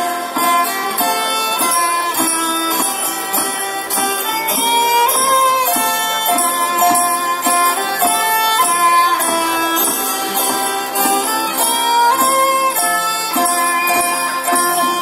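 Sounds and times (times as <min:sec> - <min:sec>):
folk guitars and violin playing: 0:00.0 - 0:15.0.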